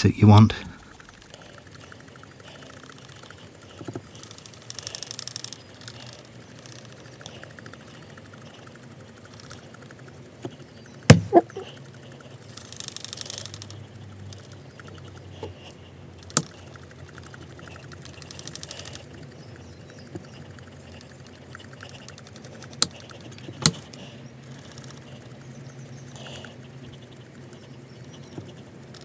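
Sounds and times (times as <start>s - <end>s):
fast rattling buzz: 0.0s - 29.0s
low steady hum: 0.0s - 29.0s
sharp clicks: 0.0s - 29.0s.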